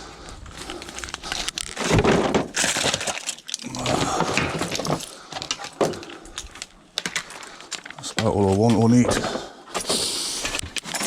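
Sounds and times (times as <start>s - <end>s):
scrap scraping and crunching: 0.2s - 11.0s.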